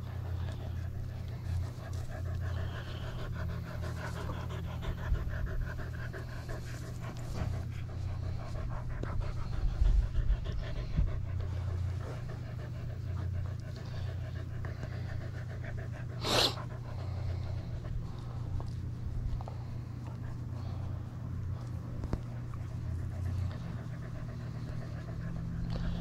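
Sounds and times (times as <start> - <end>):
dog panting: 0.0 - 26.0
low microphone rumble: 0.0 - 26.0.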